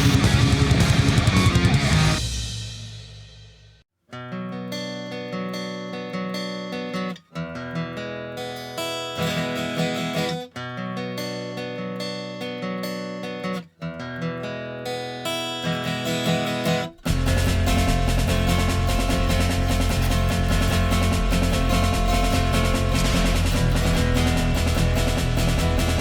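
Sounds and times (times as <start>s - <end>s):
strummed acoustic guitar music: 0.0s - 2.5s, 4.1s - 26.0s.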